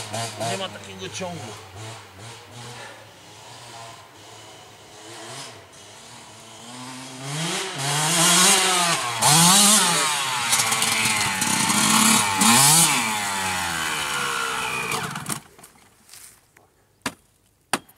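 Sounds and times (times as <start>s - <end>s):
dirt bike engine revving: 0.0s - 15.4s.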